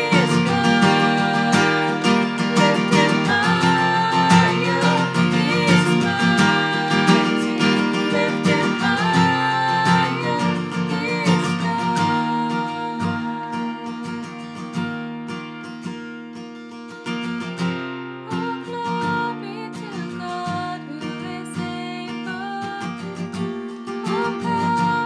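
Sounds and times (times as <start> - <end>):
woman and man singing: 0.0 - 14.3, 18.3 - 25.0
strummed acoustic guitar: 0.0 - 25.0.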